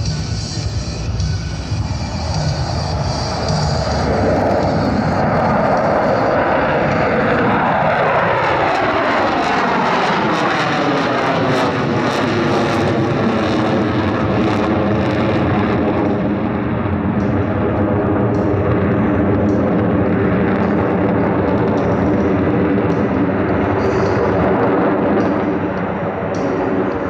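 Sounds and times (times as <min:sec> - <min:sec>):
aircraft engine flying past: 0:00.0 - 0:27.0.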